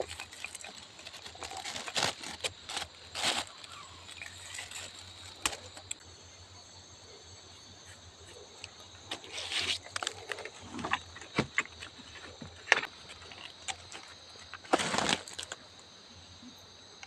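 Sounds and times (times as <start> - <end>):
forest insects humming: 0.0 - 17.0.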